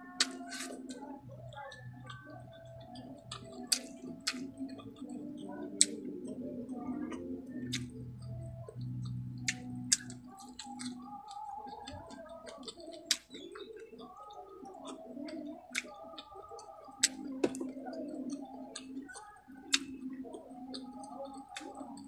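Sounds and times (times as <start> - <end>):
wet chewing: 0.0 - 22.0
mouth clicks and lip smacks: 0.1 - 6.4, 7.1 - 22.0.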